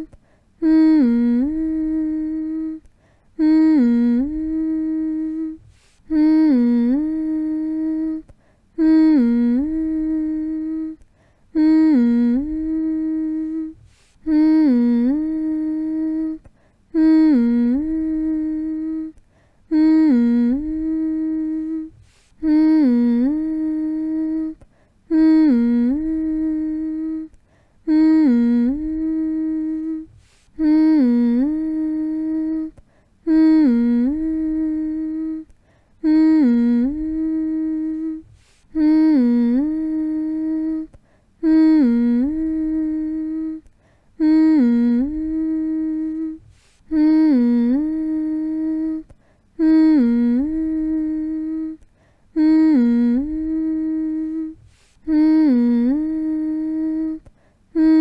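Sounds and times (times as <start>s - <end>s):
person humming a lullaby: 0.0s - 58.0s.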